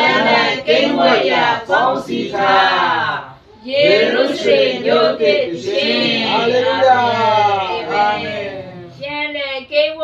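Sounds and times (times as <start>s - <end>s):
group singing a hymn: 0.0s - 8.6s.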